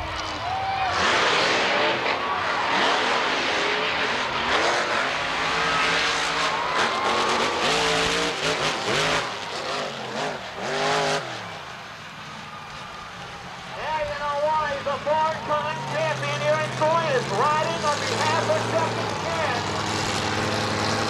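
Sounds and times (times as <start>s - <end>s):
monster truck engines racing: 0.0s - 21.0s.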